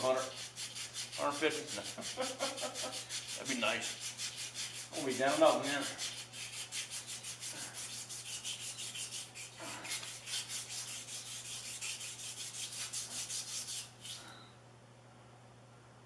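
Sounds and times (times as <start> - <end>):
cloth rubbing steel shaft: 0.0 - 14.4.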